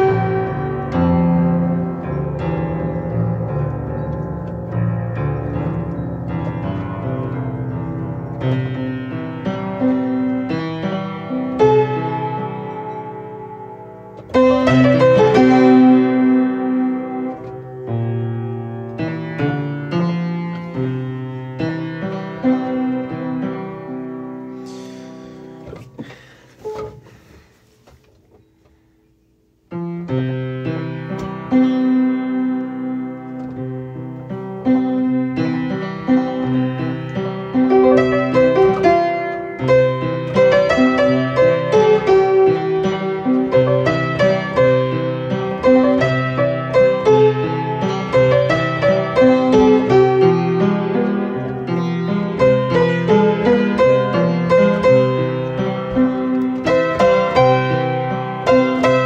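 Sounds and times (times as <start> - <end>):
solo piano music: 0.0 - 26.0, 29.0 - 59.0.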